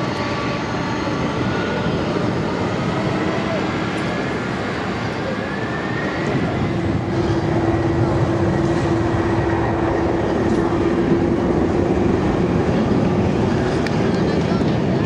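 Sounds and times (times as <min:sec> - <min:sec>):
jet engines drone: 0:00.0 - 0:15.0.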